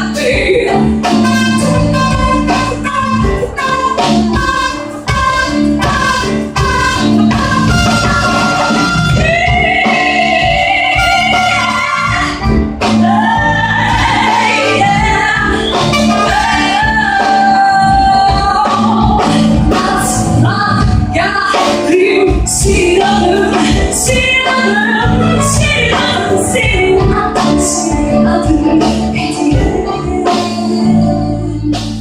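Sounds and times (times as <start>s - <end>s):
live band playing: 0.0s - 32.0s
person singing with vibrato: 0.0s - 32.0s.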